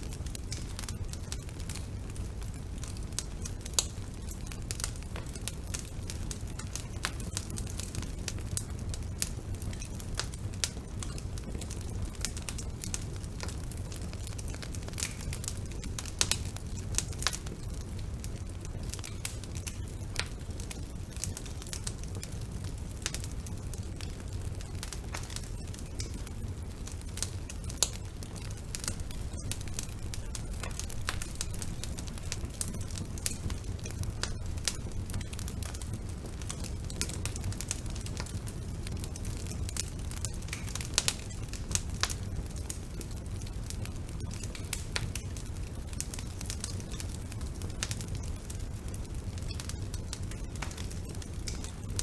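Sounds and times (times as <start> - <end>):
burning logs crackling and popping: 0.0 - 52.0
low rumble of flame: 0.0 - 52.0.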